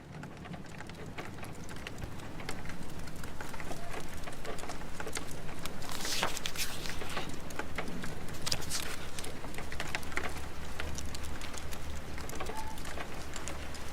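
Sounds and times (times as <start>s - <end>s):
fire crackling and popping: 0.0s - 13.9s
rain patter: 0.0s - 13.9s.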